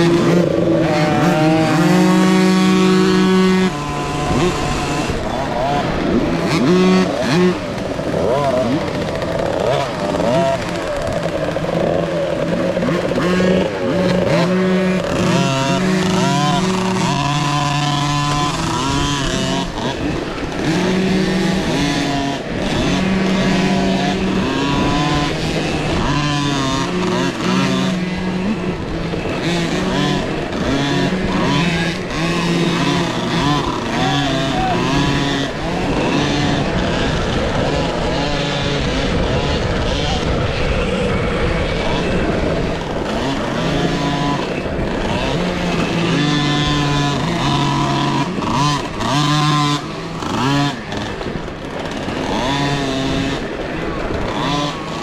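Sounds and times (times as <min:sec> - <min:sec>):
dirt bike motors revving: 0:00.0 - 0:55.0
steady rush of noise: 0:00.0 - 0:55.0.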